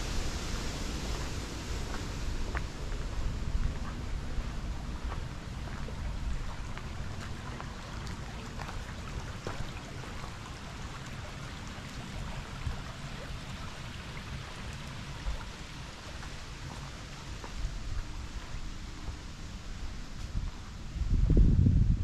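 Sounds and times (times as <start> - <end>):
brook trickling over pebbles: 0.0 - 20.8
low rumble: 0.0 - 22.0.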